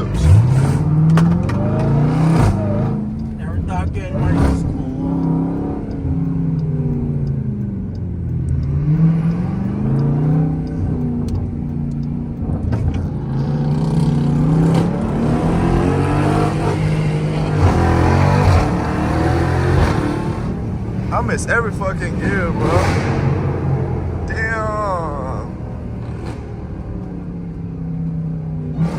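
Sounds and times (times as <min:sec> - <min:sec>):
engine revving: 0:00.0 - 0:28.9.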